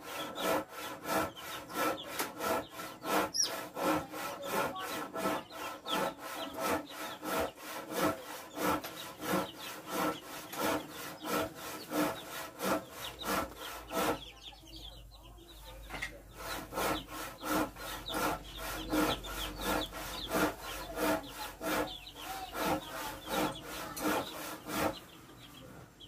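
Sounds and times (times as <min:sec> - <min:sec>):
rhythmic rasping strokes: 0:00.0 - 0:15.0, 0:15.8 - 0:25.3
chicks peeping: 0:00.0 - 0:26.0.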